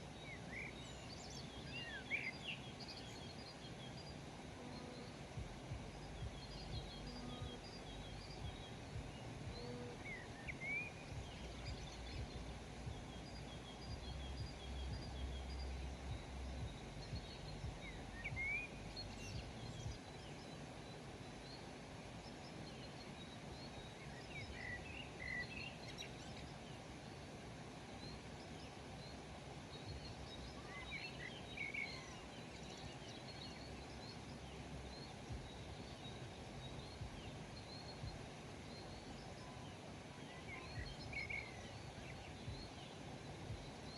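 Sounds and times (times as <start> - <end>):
small birds chirping: 0.0 - 43.9
low background rumble: 2.9 - 43.9.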